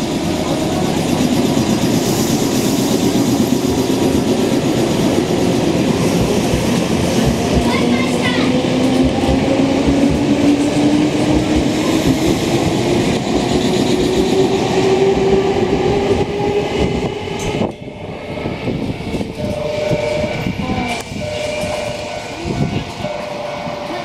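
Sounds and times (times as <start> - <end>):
steady tone from approaching train: 0.0 - 24.0
train wheel rumble: 0.0 - 24.0.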